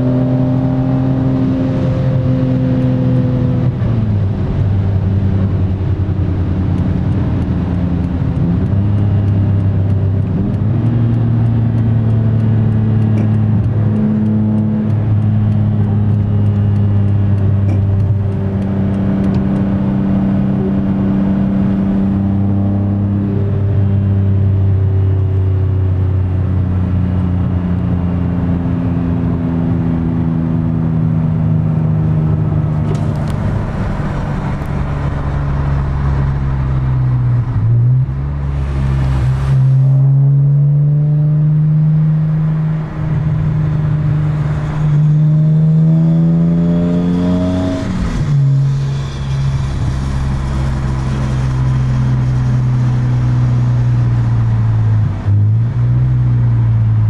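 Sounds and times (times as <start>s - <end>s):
car engine revving in cabin: 0.0s - 57.0s.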